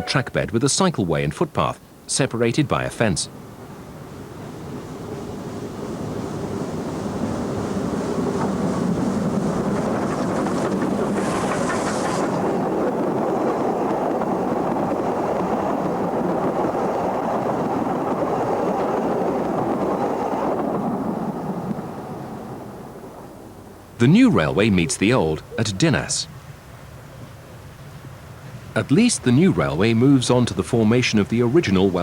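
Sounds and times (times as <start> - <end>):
steam train running past: 0.0 - 32.0.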